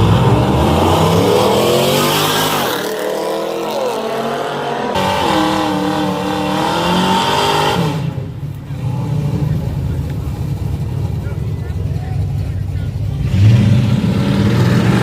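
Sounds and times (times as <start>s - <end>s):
engines revving hard: 0.0s - 15.0s.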